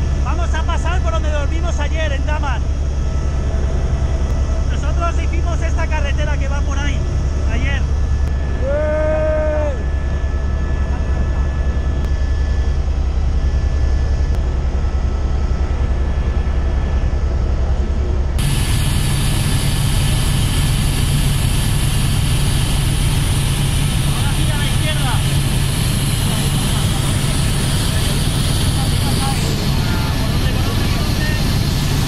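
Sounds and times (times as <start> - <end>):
helicopter rotor chop: 0.0 - 8.7, 9.3 - 32.0
steady mechanical whine: 0.0 - 32.0.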